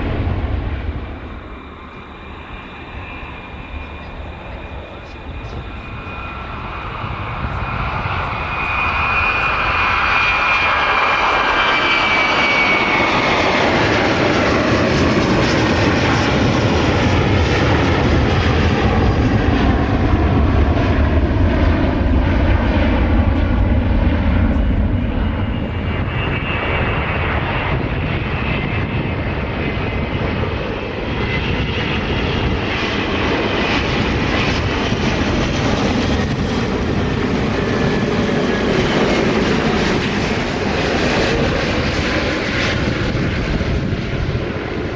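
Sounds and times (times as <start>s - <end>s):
jet engine roar: 0.0s - 44.9s.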